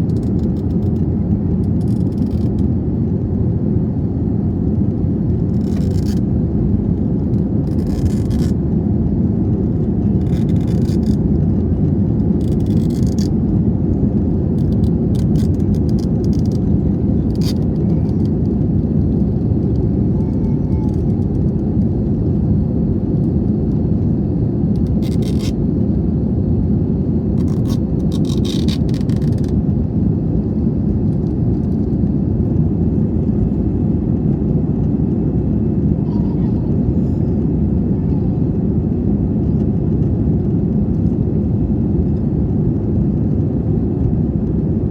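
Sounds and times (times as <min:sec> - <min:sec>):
airliner cabin rumble: 0:00.0 - 0:44.9.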